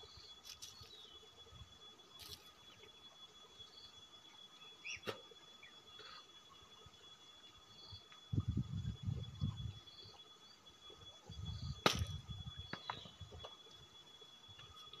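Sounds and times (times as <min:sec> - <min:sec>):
thin steady high tone: 0:00.0 - 0:15.0.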